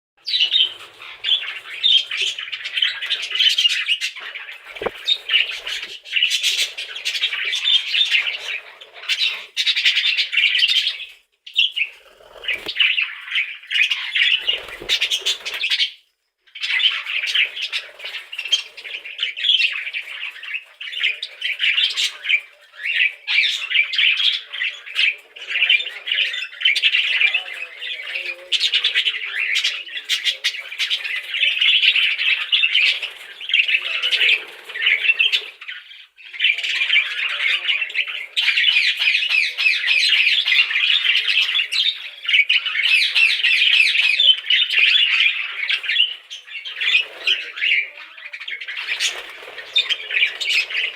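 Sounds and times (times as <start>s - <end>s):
budgerigars chattering: 0.3s - 15.9s, 16.6s - 50.9s.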